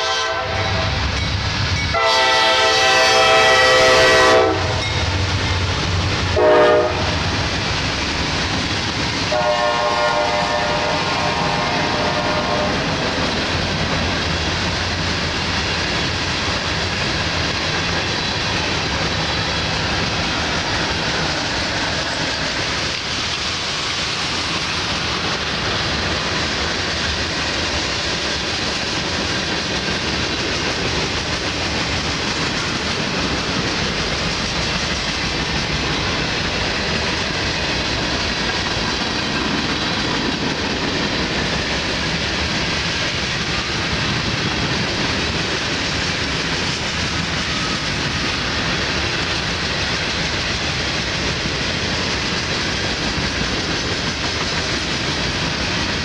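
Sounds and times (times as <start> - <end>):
freight train rolling past: 0.0 - 56.0
wheels clickety-clack on rail: 0.0 - 56.0.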